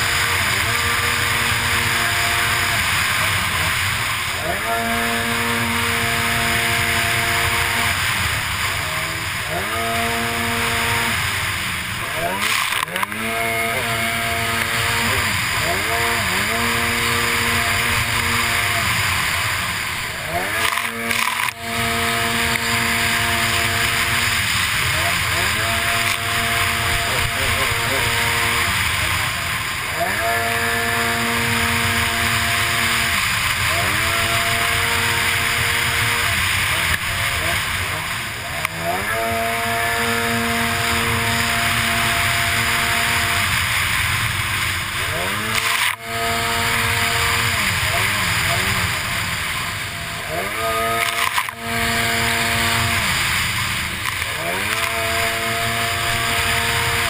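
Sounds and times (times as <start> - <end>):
jet ski engine revving: 0.0 - 57.0
water spray: 0.0 - 57.0
wind: 0.0 - 57.0.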